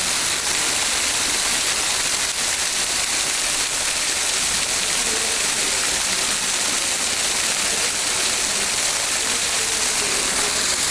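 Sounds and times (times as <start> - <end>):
steady rain: 0.0 - 10.9.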